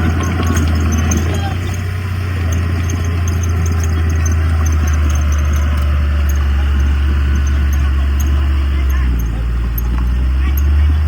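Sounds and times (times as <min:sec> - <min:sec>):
diesel engine droning: 0:00.0 - 0:11.0
faint light ticking: 0:00.0 - 0:11.0.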